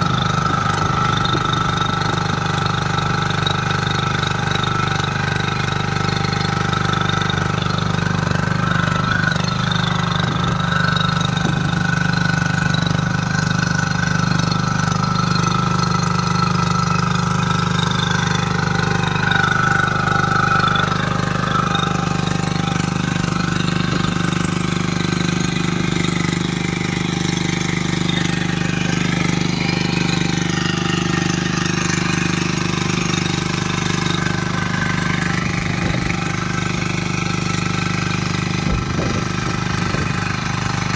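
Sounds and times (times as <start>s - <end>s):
tiller diesel engine running: 0.0s - 40.9s
tines churning soil: 0.0s - 40.9s.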